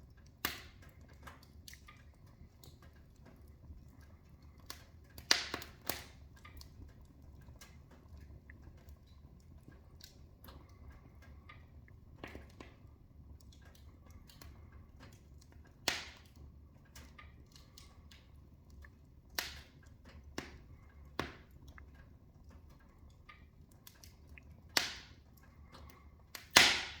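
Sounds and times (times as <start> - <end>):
wood fire crackling: 0.0 - 27.0
sharp pops of fire: 0.3 - 3.3, 4.6 - 9.2, 11.5 - 21.9, 23.2 - 27.0.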